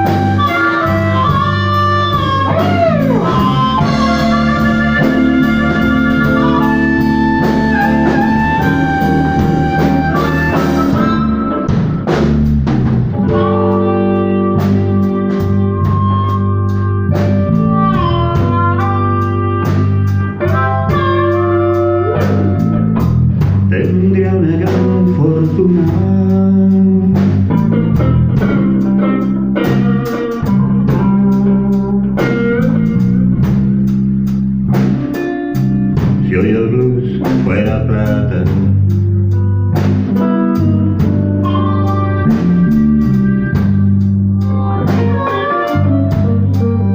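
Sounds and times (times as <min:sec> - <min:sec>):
bass line: 0:00.0 - 0:46.9
drum kit: 0:00.0 - 0:46.9
electric guitar notes: 0:00.0 - 0:46.9.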